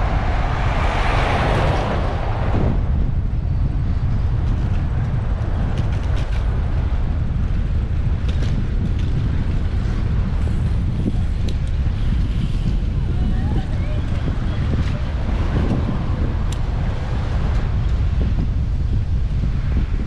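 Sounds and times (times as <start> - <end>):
road traffic: 0.0 - 20.0
wind on microphone: 0.0 - 20.0.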